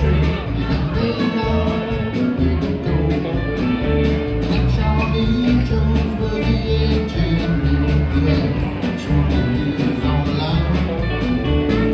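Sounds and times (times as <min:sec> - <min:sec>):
live band playing country rock: 0:00.0 - 0:11.9.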